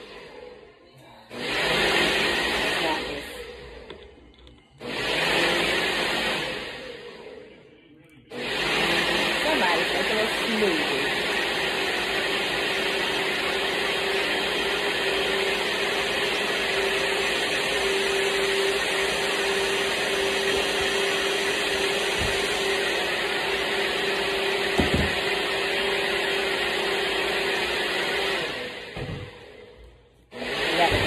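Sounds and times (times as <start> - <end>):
blender motor whirring: 0.0 - 0.7, 1.3 - 7.6, 8.3 - 31.0.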